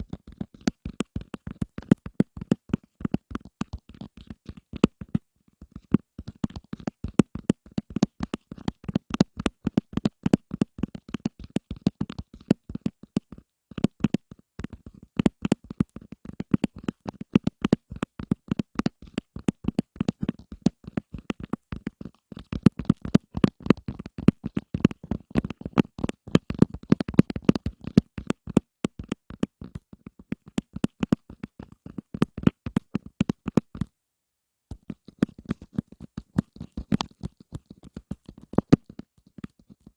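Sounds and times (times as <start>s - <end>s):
hands tapping: 0.0s - 33.9s, 34.7s - 39.9s.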